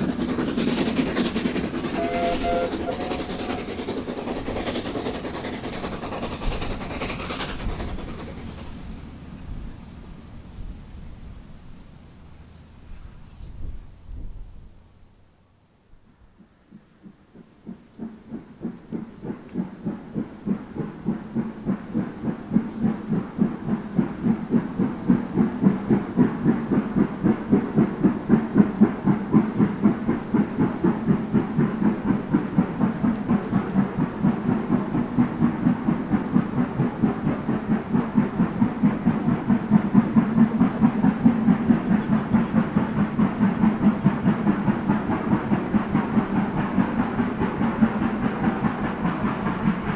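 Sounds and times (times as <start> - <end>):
steam locomotive chuffing: 0.0 - 49.9.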